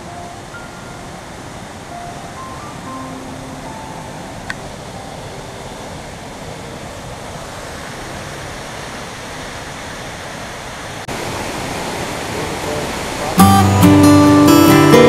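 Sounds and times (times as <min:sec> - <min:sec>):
stream water rushing: 0:00.0 - 0:15.0
waterfall rushing: 0:00.0 - 0:15.0.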